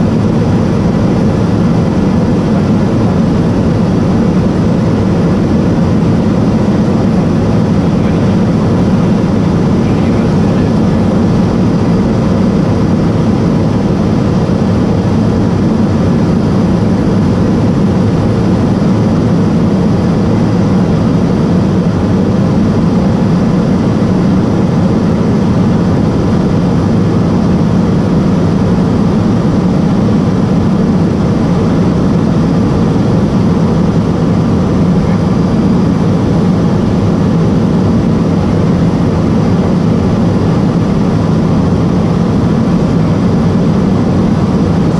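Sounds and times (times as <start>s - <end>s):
aircraft cabin engine drone: 0.0s - 44.9s.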